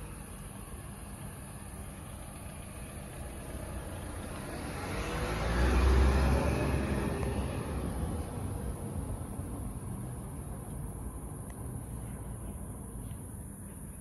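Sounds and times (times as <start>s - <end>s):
vehicle passing: 0.0s - 13.0s
low traffic rumble: 0.0s - 14.0s.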